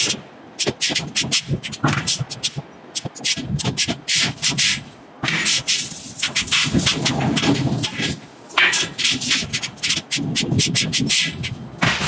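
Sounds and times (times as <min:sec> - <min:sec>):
hissing scraping bursts on hot iron: 0:00.0 - 0:12.0.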